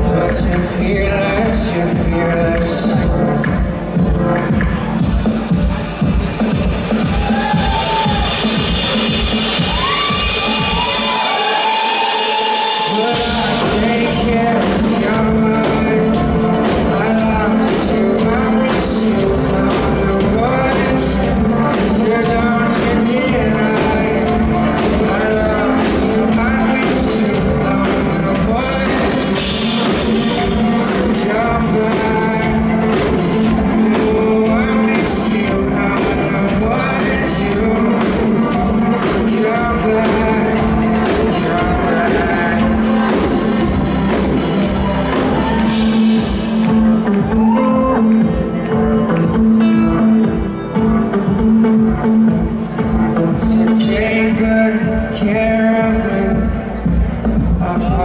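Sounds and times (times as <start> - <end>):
man singing into microphone: 0.0 - 5.0, 9.6 - 58.0
live band playing: 0.0 - 58.0.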